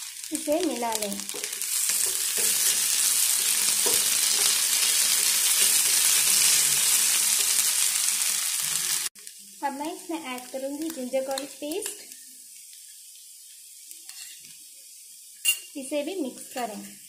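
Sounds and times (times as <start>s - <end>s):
spatula stirring in pan: 0.0s - 9.5s, 10.4s - 14.6s
vegetables sizzling in oil: 0.0s - 17.0s.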